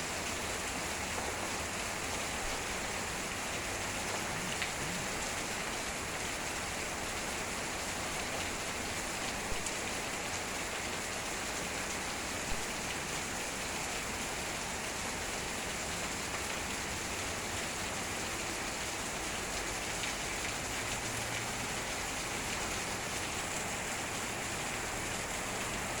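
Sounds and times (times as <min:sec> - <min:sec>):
heavy rain on hard surfaces: 0:00.0 - 0:26.0.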